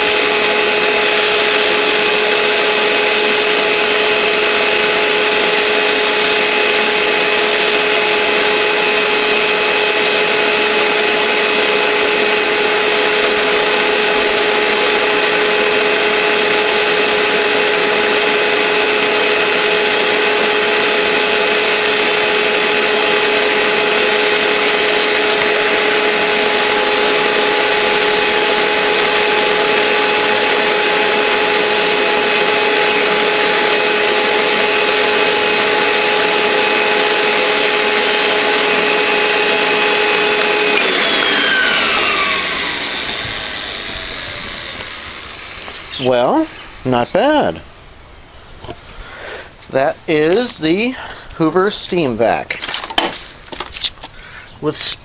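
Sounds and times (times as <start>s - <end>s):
carpet cleaner suction rushing: 0.0s - 47.6s
high motor whine: 0.0s - 53.7s.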